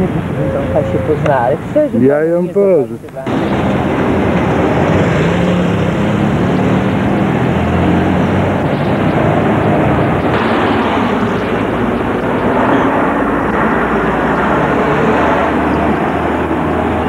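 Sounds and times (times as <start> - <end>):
bus engine: 0.0 - 17.0
passing cars: 0.0 - 17.0.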